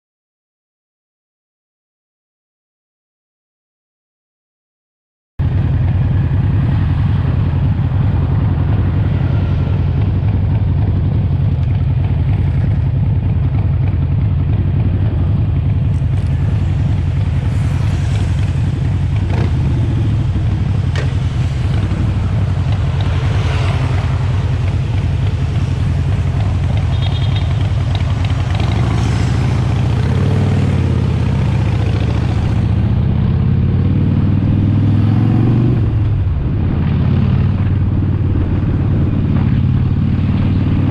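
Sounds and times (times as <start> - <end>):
motorcycle engine running: 5.4 - 40.9.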